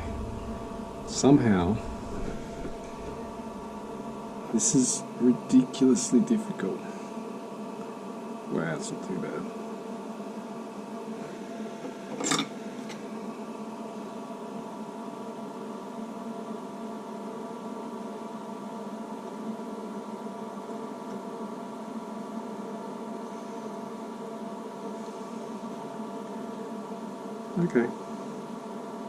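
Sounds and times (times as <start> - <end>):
steady multi-pitched hum: 0.0 - 29.0.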